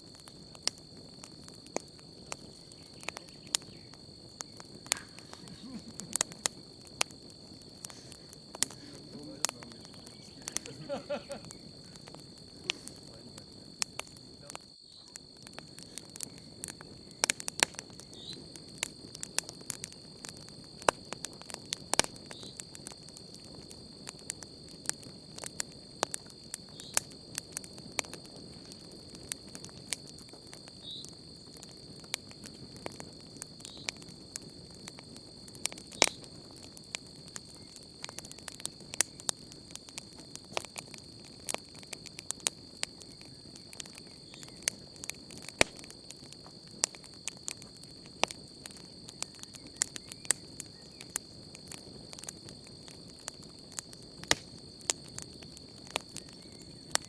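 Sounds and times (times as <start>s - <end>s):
campfire crackling and popping: 0.0s - 57.0s
crickets trilling: 0.0s - 57.0s.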